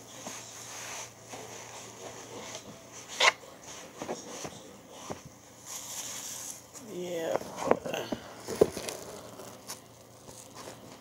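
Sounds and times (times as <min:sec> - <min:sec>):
light rubbing and handling: 0:00.1 - 0:11.0.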